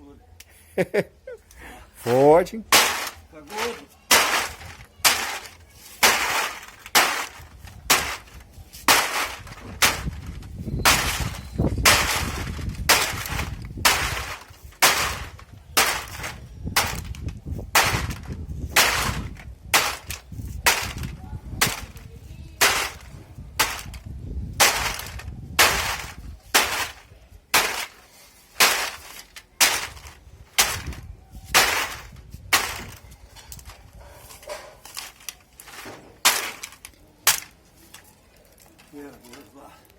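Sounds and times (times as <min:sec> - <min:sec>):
tamper crushing metal cans: 0:02.7 - 0:33.8, 0:34.8 - 0:38.9.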